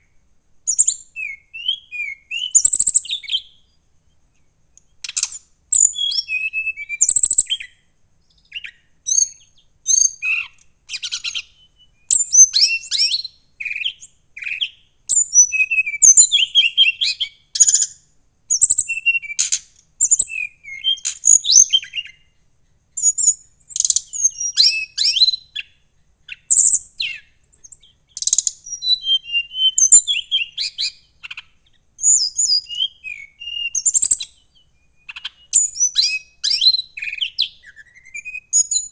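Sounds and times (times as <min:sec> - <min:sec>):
bird singing chirps and trills: 0:00.0 - 0:22.4, 0:23.0 - 0:38.9.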